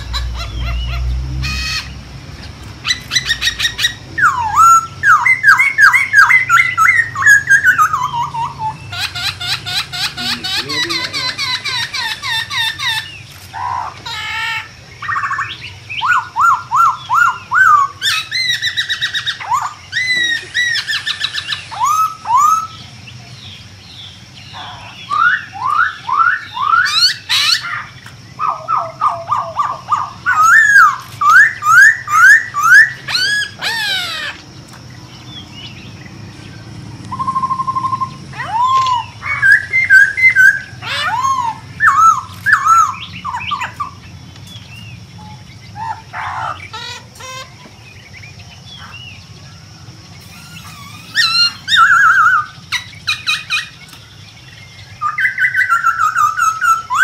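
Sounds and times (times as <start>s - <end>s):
bird song whistles and chatter: 0.0s - 57.0s.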